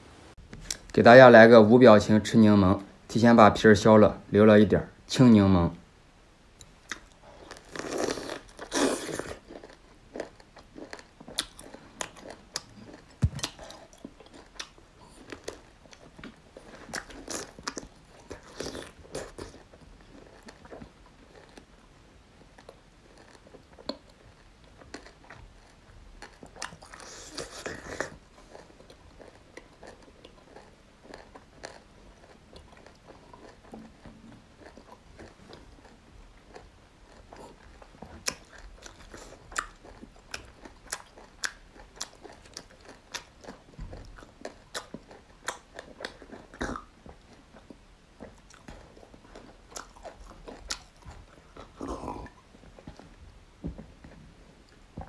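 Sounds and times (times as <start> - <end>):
person chewing wetly: 6.9 - 21.7, 22.6 - 53.2.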